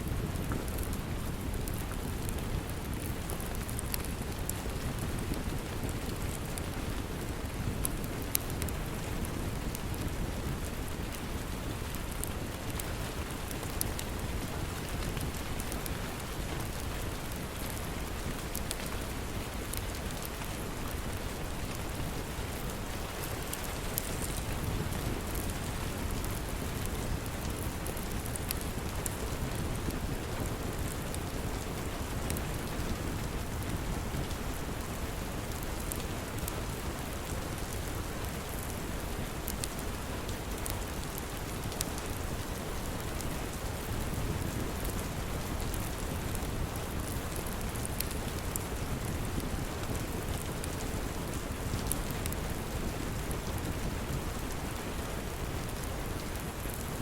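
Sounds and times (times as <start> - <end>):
steady rain: 0.0 - 57.0
sharp ticks and crackles: 0.1 - 50.8, 51.4 - 55.0.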